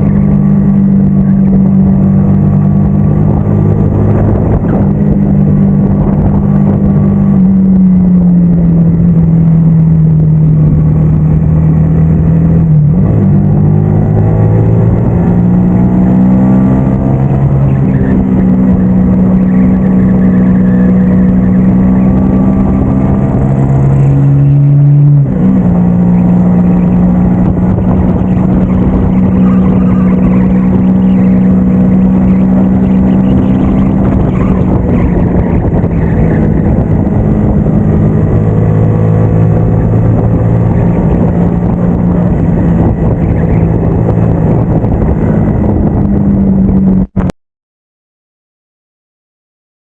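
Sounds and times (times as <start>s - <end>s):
motorcycle engine accelerating: 0.0s - 47.4s.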